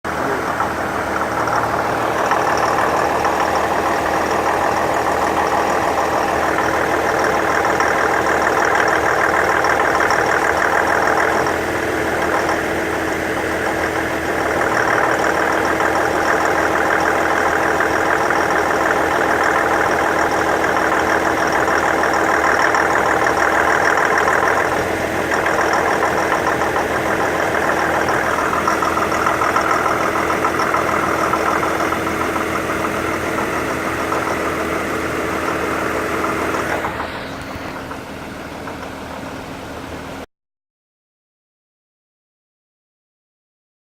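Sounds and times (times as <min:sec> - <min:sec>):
car engine running: 0:00.0 - 0:40.2
engine pinging and knocking: 0:00.0 - 0:40.2.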